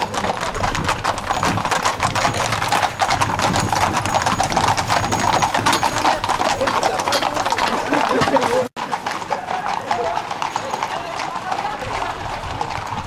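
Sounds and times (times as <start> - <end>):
horse hooves clopping on asphalt: 0.0 - 13.0.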